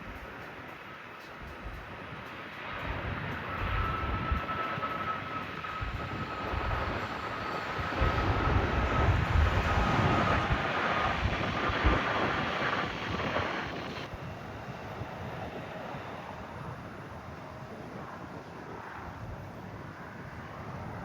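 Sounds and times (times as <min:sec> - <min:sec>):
jet airliner engines roaring: 0:00.0 - 0:21.0
wind buffeting microphone: 0:01.4 - 0:21.0.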